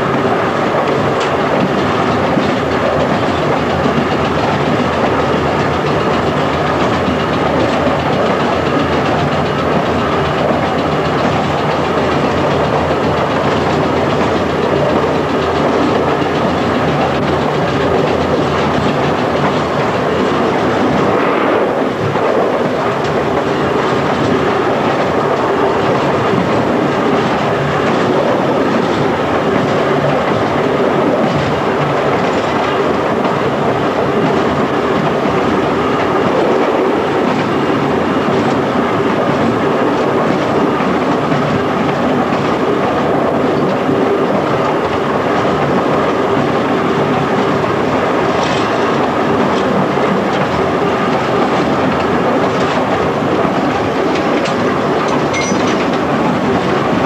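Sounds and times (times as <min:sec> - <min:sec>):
clickety-clack over rail joints: 0:00.0 - 0:57.0
train wheels rumbling on rails: 0:00.0 - 0:57.0.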